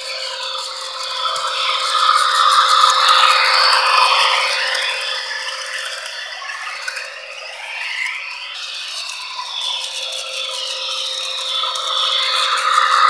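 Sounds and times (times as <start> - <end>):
model train motor whine: 0.0 - 13.0.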